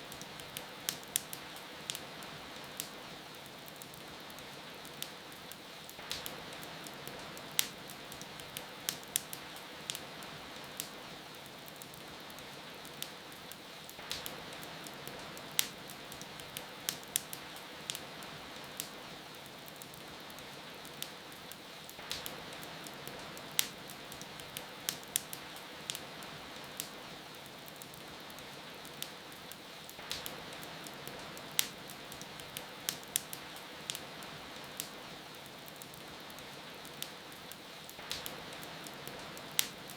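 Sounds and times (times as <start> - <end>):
rain hiss: 0.0 - 39.9
wood fire crackling and popping: 0.0 - 39.9.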